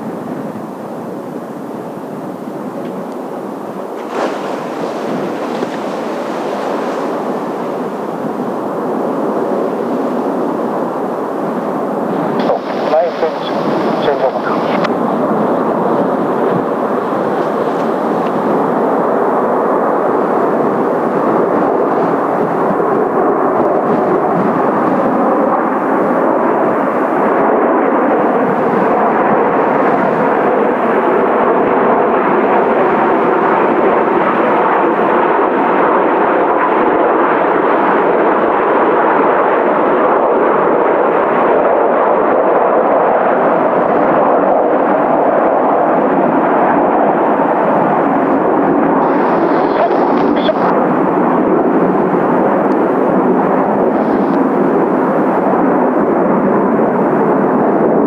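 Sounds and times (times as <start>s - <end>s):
jet engines flying overhead: 0.0s - 58.0s
wind buffeting microphone: 0.0s - 58.0s.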